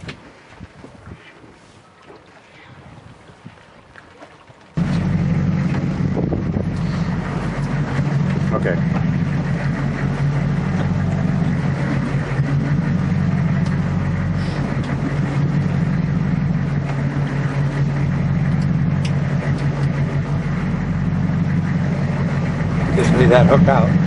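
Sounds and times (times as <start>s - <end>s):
boat engine idling: 4.7s - 24.0s.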